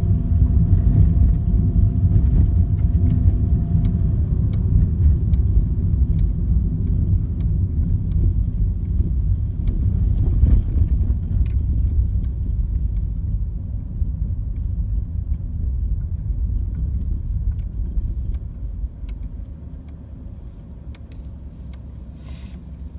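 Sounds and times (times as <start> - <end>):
vehicle engine rumbling: 0.0 - 22.9.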